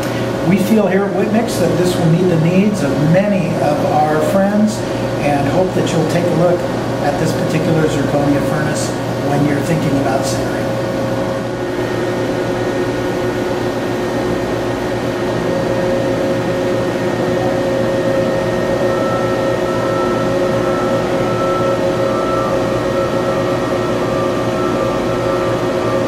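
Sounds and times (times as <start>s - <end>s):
furnace humming: 0.0s - 26.0s
higher hum tone: 0.0s - 26.0s.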